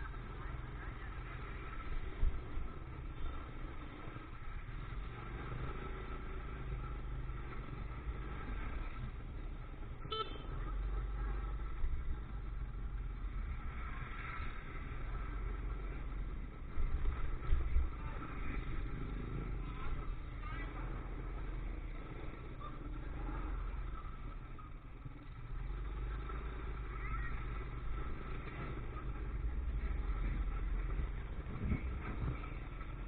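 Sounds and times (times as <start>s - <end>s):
motorcycle engine and road rumble: 0.0s - 33.0s.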